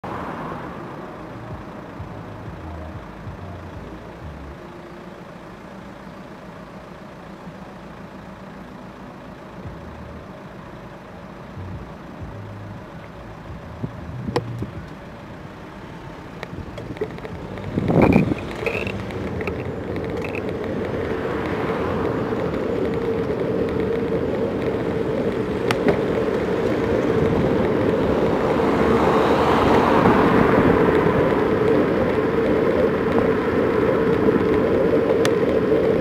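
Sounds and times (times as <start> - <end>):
car engines idling: 0.0 - 36.0.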